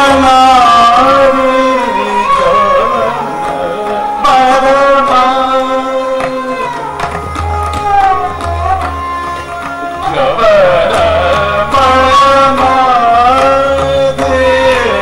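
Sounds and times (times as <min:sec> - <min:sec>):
man singing: 0:00.0 - 0:07.1, 0:10.0 - 0:15.0
tanpura drone: 0:00.0 - 0:15.0.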